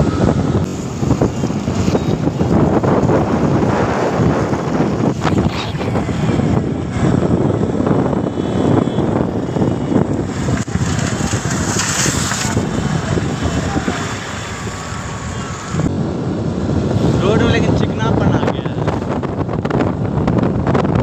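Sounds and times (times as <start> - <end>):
motorbike running noise: 0.0 - 21.0
wind buffeting microphone: 0.0 - 21.0.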